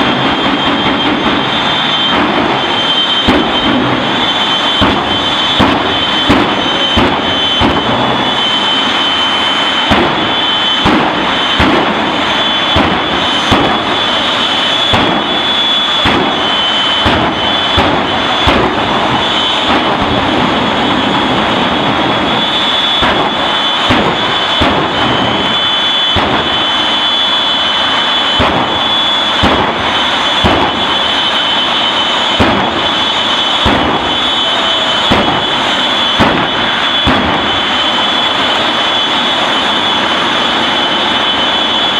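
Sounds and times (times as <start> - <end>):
high engine whine: 0.0 - 41.9
jet engine roaring: 0.0 - 41.9.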